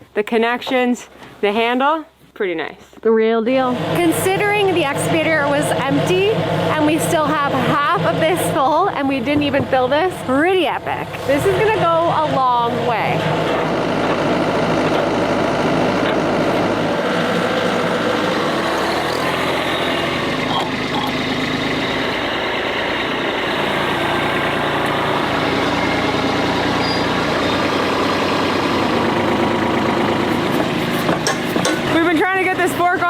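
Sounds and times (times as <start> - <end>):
heavy machine engine idling: 3.7 - 33.0.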